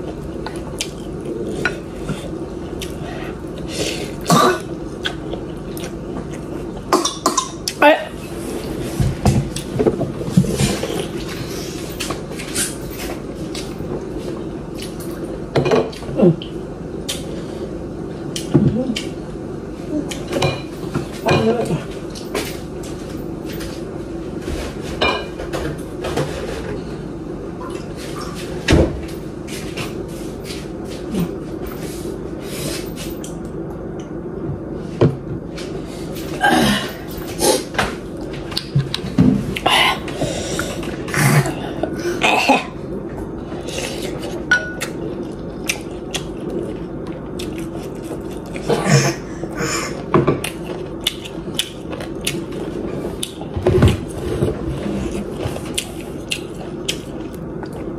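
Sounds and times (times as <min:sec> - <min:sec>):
steady hum: 0:00.0 - 0:57.9.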